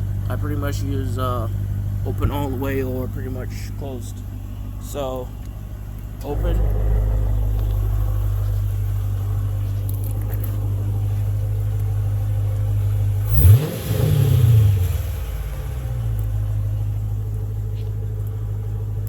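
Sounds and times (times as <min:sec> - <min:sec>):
car engine idling with throttle blip: 0:00.0 - 0:19.0.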